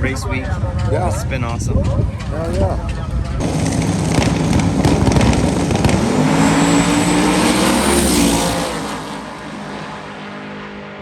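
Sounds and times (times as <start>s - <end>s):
race car engines at full throttle: 1.6s - 11.0s.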